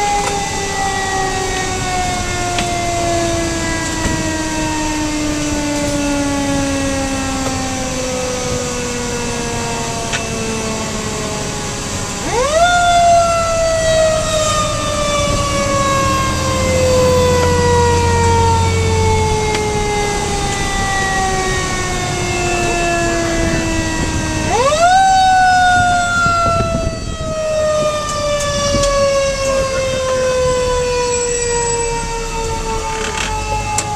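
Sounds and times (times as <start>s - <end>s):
fire engine siren: 0.0s - 33.9s.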